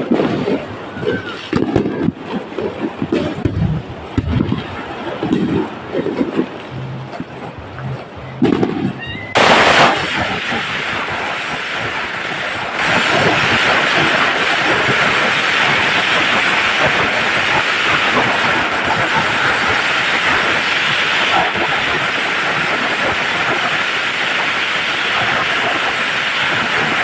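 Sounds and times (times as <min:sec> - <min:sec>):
firecracker string crackling: 0:00.0 - 0:27.0.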